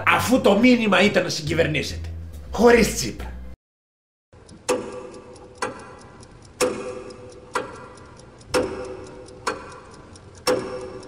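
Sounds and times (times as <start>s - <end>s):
clock ticking: 0.0s - 3.4s, 4.3s - 11.0s.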